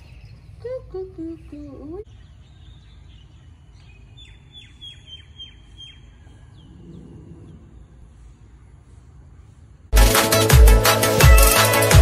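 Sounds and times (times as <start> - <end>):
bird chirping: 0.0 - 9.7.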